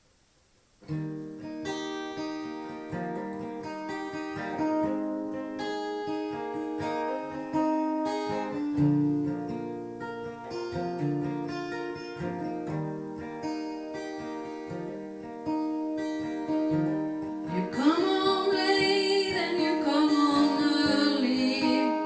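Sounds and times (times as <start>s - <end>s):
acoustic guitar strumming: 0.8s - 22.0s.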